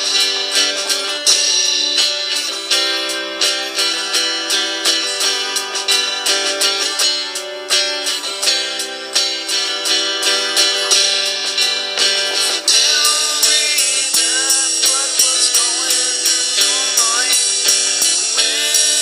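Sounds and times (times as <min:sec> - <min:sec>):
guitar background music: 0:00.0 - 0:19.0.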